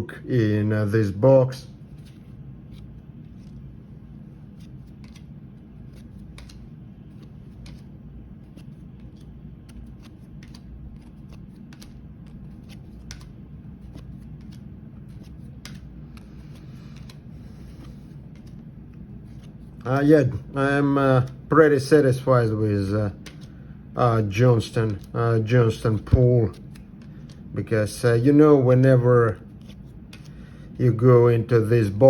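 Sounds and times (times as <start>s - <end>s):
steady low hum: 0.0s - 32.0s
cards clicking and sliding: 1.8s - 22.2s, 22.8s - 28.0s, 28.9s - 31.0s.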